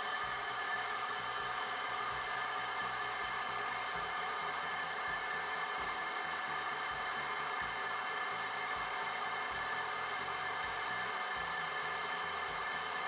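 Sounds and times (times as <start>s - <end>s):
drill press motor running: 0.0s - 13.0s.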